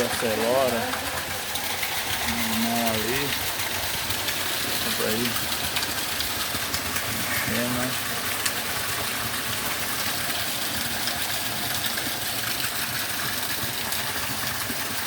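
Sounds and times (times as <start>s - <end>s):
heavy rain pouring: 0.0s - 15.0s
water running and splashing: 0.0s - 15.0s.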